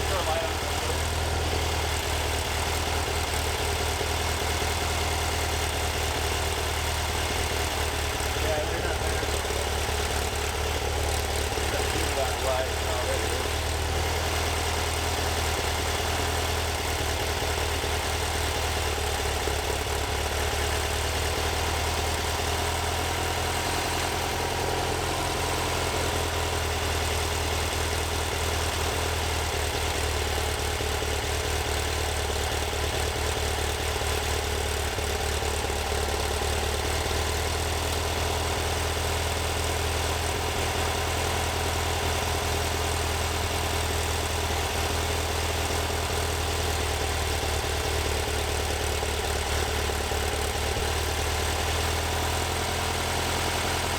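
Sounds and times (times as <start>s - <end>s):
vehicle engine running steadily: 0.0s - 53.9s.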